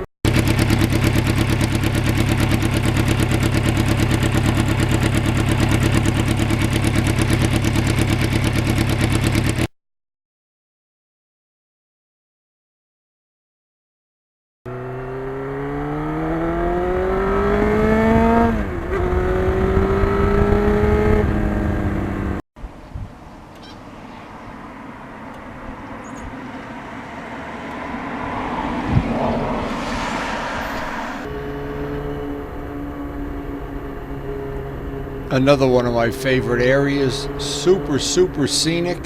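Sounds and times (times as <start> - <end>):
motorcycle engine accelerating: 0.0 - 9.7, 14.7 - 22.4, 25.0 - 39.0
wind and road noise: 0.0 - 9.7, 14.7 - 39.0.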